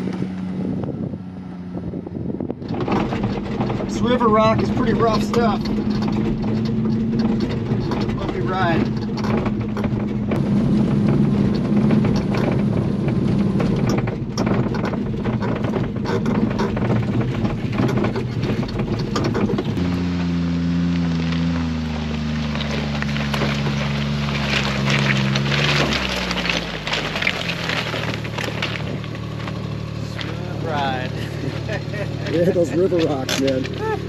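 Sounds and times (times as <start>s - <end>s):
gravel crunching: 0.0s - 34.0s
truck engine droning: 0.0s - 34.0s
cab rattling and knocking: 2.4s - 19.9s, 21.0s - 34.0s.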